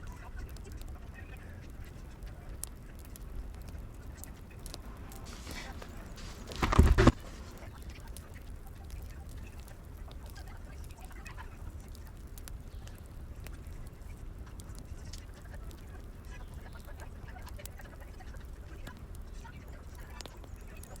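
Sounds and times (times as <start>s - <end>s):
wood fire crackling: 0.2s - 21.0s.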